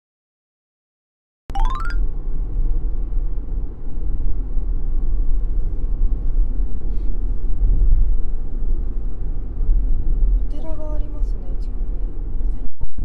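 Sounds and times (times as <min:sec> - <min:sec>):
car road and engine rumble: 0:02.1 - 0:12.7.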